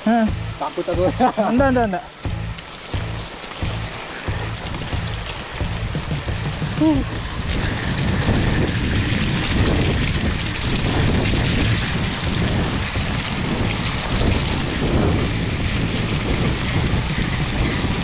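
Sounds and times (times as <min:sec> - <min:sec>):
heavy rain falling: 0:00.0 - 0:18.0
wind buffeting microphone: 0:01.0 - 0:18.0.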